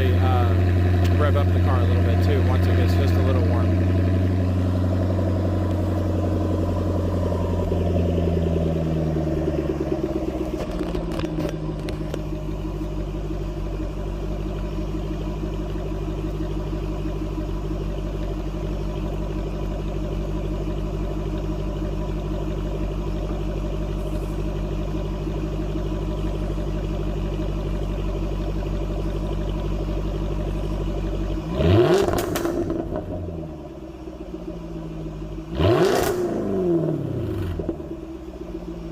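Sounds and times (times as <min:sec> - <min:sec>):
car engine idling: 0:00.0 - 0:38.9
engine rev: 0:00.0 - 0:38.9.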